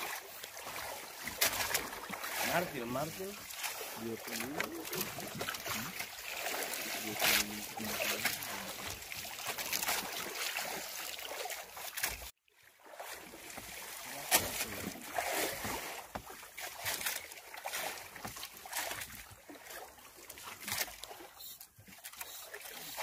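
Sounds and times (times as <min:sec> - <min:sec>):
steady water wash: 0:00.0 - 0:23.0
water splashing against boat hull: 0:00.0 - 0:23.0.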